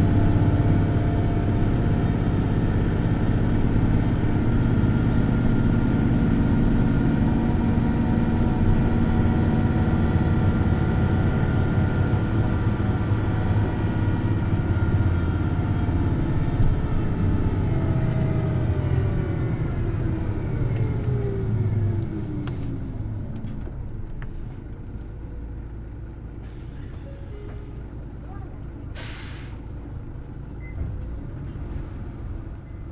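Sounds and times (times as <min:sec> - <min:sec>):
bus drivetrain whine: 0:00.0 - 0:32.9.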